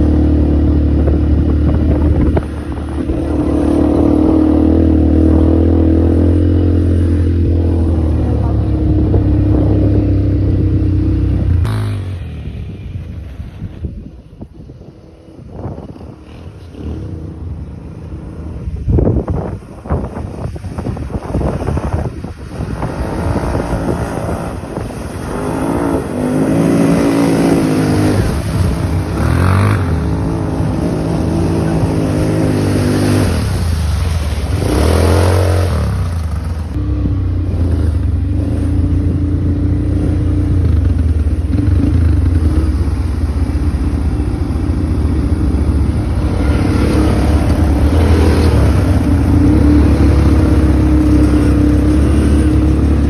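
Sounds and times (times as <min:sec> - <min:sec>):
atv engine revving: 0:00.0 - 0:14.0, 0:15.0 - 0:53.0.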